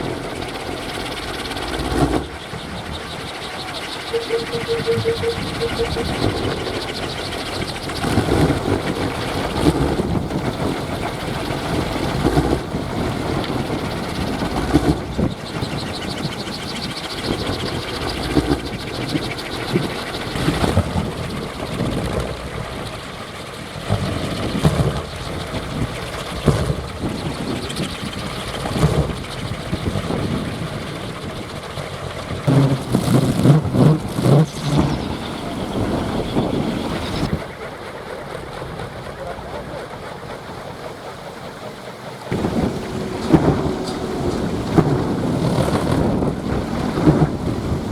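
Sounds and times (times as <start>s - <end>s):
wind propeller whirring: 0.0s - 47.9s.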